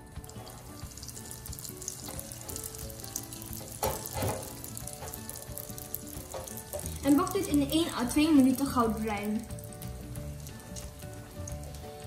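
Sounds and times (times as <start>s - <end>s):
deep fryer bubbling sizzle: 0.0s - 12.0s.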